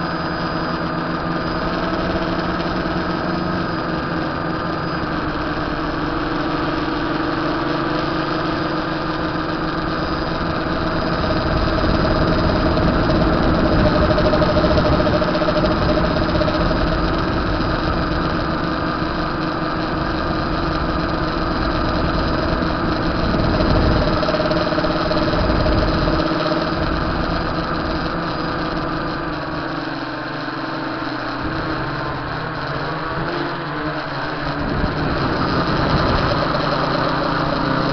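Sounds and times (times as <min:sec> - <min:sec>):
drone motors and propellers droning: 0:00.0 - 0:37.9.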